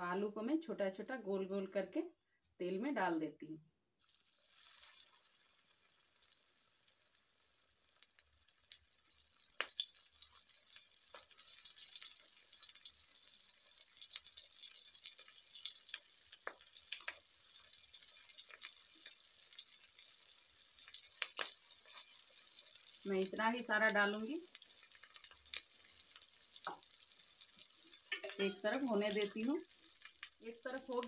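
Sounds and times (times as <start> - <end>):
patties sizzling in hot oil: 4.0 - 31.0.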